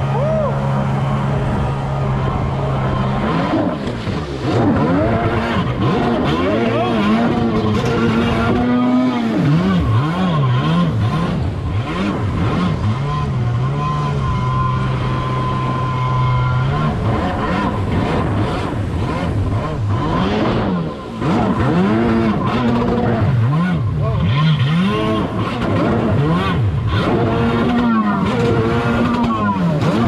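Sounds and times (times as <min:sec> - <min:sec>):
jet ski engine revving: 0:00.0 - 0:30.0.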